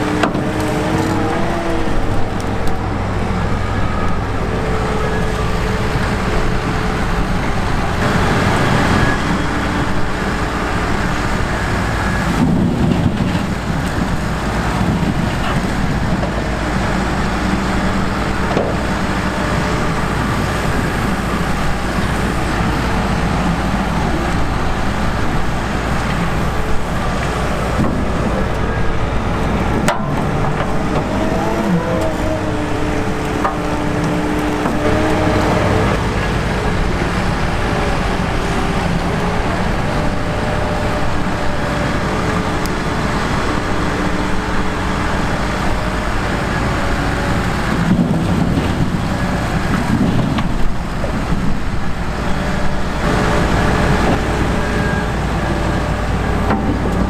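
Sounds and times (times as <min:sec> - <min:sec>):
diesel farm machinery running: 0:00.0 - 0:57.0.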